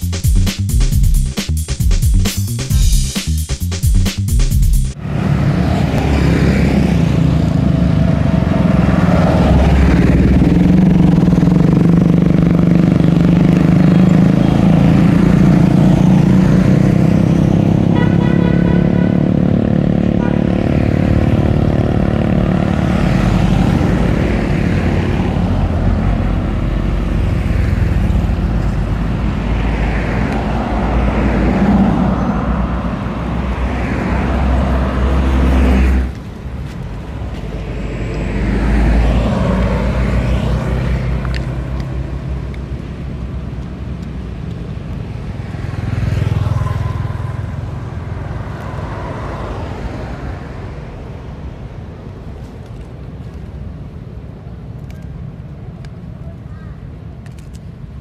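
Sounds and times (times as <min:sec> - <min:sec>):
motorbikes and cars driving past: 0:04.9 - 0:53.3.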